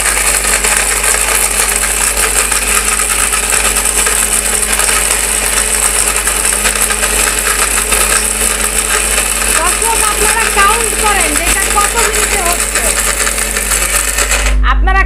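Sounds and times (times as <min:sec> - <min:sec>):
hard pieces rattling in jar: 0:00.0 - 0:14.5
blender motor running: 0:00.0 - 0:14.6.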